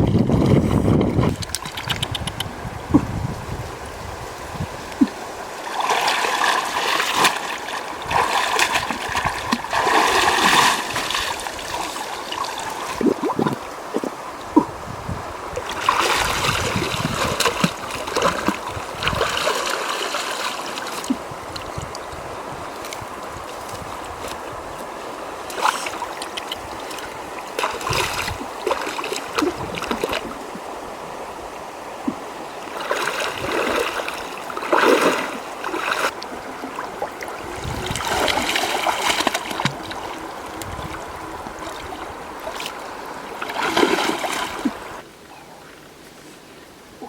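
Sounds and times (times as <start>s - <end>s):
water splashing: 0.0s - 45.9s
running water: 0.0s - 47.0s.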